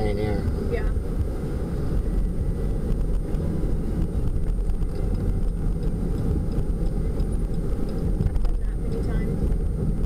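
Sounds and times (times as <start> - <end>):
van road and engine rumble: 0.0 - 10.0.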